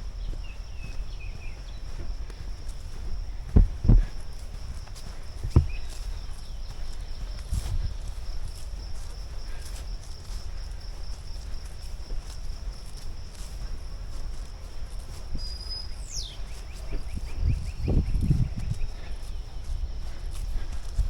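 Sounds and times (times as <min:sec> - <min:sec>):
faint footsteps on trail: 0:00.0 - 0:21.0
insects trilling: 0:00.0 - 0:21.0.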